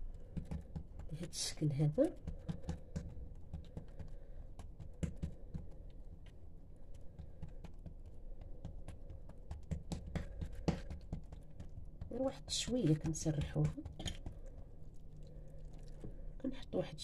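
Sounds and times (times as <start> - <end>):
hands patting dough: 0.0 - 16.4.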